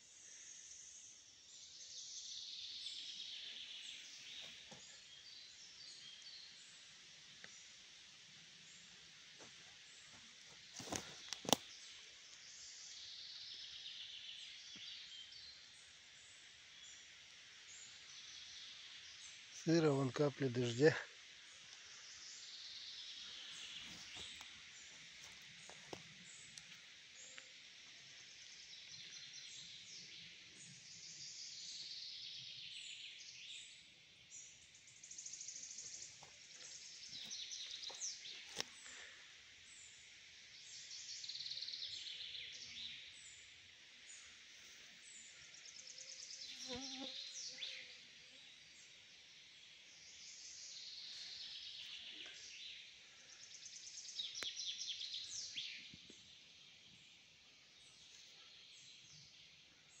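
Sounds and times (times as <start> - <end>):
songbirds trilling: 0.0 - 60.0.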